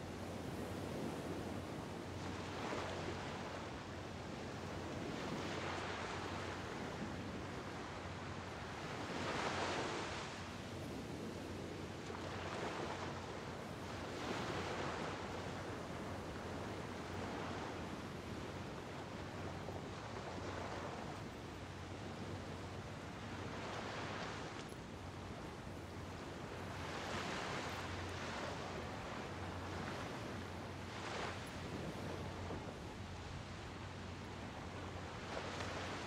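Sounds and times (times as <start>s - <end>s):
small waves washing ashore: 0.0s - 36.0s.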